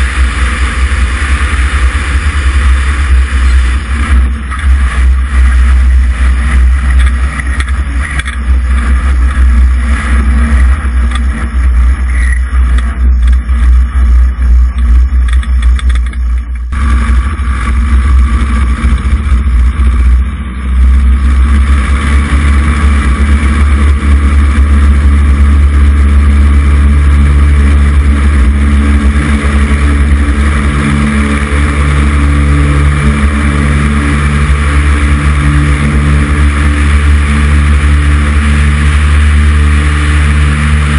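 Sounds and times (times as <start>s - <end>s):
aircraft engine and propeller: 0.0s - 40.9s.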